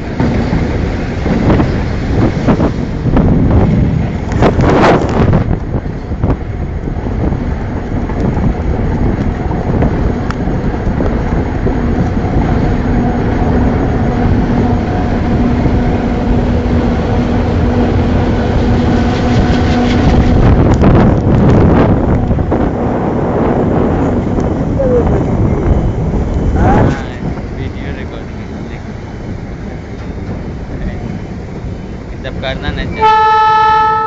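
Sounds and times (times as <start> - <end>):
locomotive rumble and rattle: 0.0 - 34.0
wind buffeting microphone: 0.0 - 34.0.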